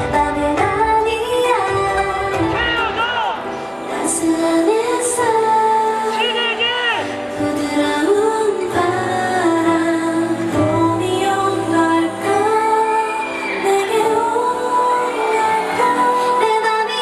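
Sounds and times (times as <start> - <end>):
women singing into microphones: 0.0 - 2.9, 3.5 - 17.0
pop song over sound system: 0.0 - 17.0.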